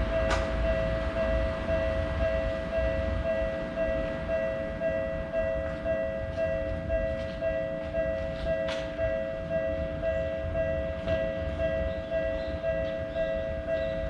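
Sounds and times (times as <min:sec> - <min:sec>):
level-crossing alarm ringing: 0:00.0 - 0:14.0
train rumbling: 0:00.0 - 0:14.0.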